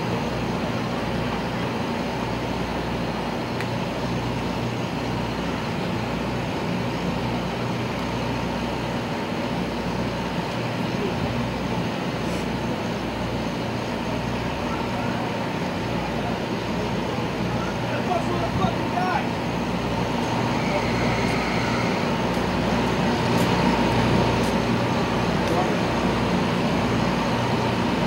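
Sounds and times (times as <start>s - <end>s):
engines running: 0.0s - 28.0s
traffic noise: 0.0s - 28.0s.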